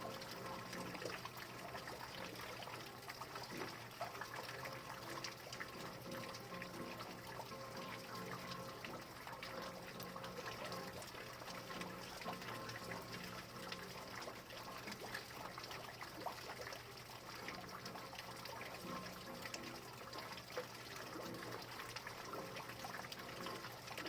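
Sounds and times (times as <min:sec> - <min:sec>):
steady rain with dripping: 0:00.0 - 0:24.0.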